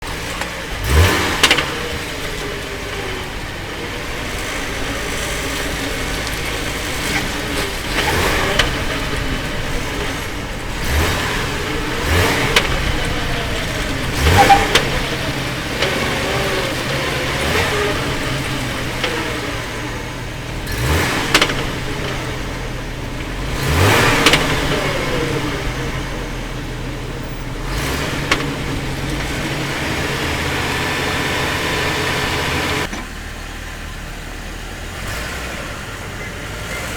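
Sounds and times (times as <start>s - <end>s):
engine hum: 0.0s - 36.9s.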